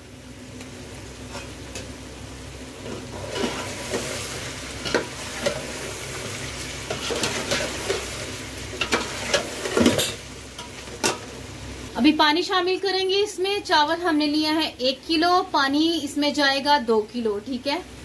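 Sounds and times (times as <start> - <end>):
chicken sizzling in a pot: 0.0 - 16.6.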